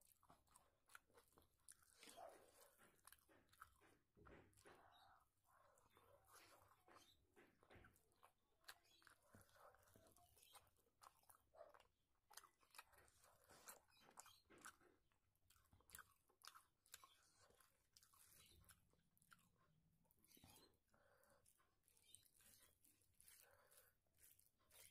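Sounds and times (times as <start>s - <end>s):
person chewing and mouth smacks: 0.0s - 24.9s.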